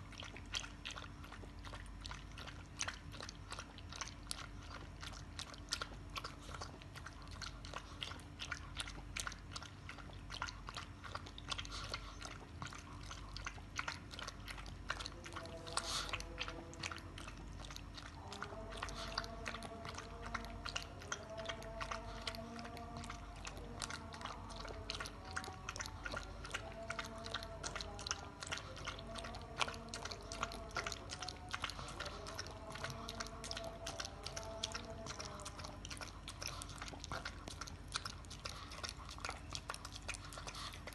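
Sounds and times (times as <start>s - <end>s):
dog lapping milk: 0.0s - 40.9s
faint background music: 0.0s - 40.9s.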